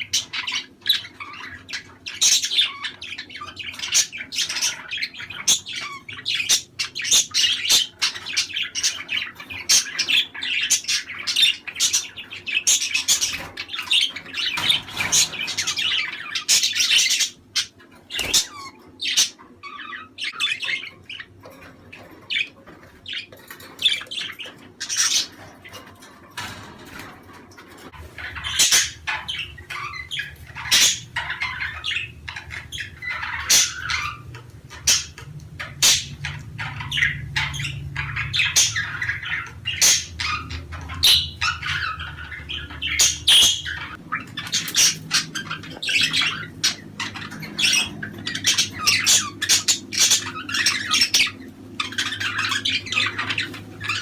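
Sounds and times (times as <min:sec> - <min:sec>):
budgerigars chattering: 0:00.0 - 0:54.0.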